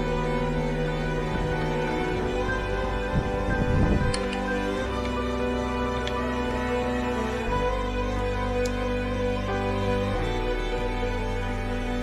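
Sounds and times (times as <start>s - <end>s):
music with slow sustained chords: 0.0s - 12.0s.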